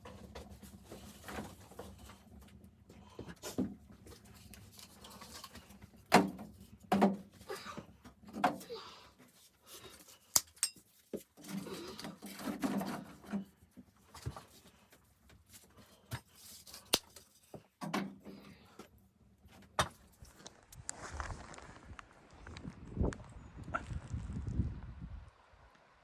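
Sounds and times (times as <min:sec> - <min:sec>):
rustling and handling noise: 0:00.0 - 0:21.9.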